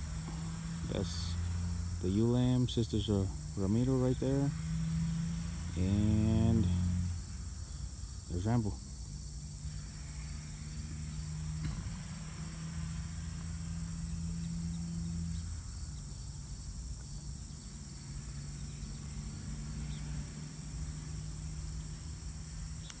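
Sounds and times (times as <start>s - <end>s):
insects chirping: 0.0s - 23.0s
low hum: 0.0s - 23.0s.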